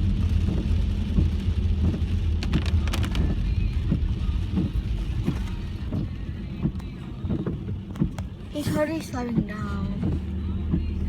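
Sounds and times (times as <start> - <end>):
rain and tyre spray hiss: 0.0 - 10.9
car engine and road rumble: 0.0 - 11.0.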